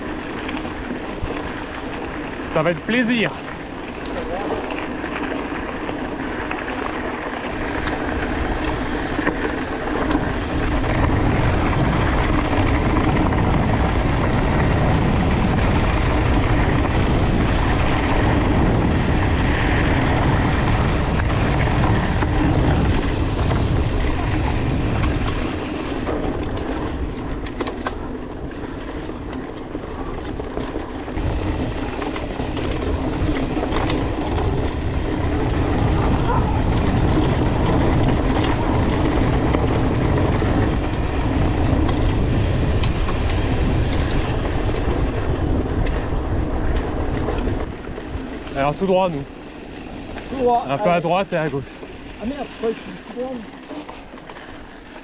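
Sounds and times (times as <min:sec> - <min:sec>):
bike tyres crunching on gravel: 0:00.0 - 0:55.0
wind buffeting microphone: 0:07.5 - 0:53.7.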